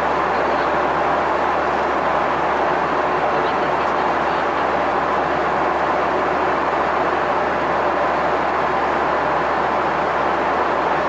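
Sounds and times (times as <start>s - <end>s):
jet engine roar in cabin: 0.0s - 11.0s.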